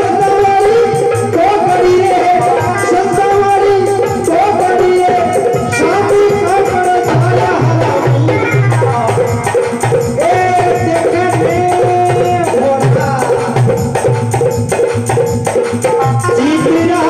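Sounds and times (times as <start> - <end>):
hand drum playing: 0.0 - 17.0.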